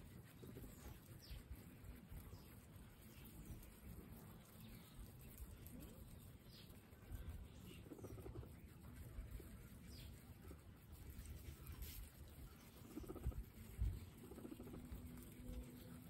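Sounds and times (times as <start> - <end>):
guinea pig high chirps: 0.0 - 16.0
guinea pigs munching grass: 0.0 - 16.0.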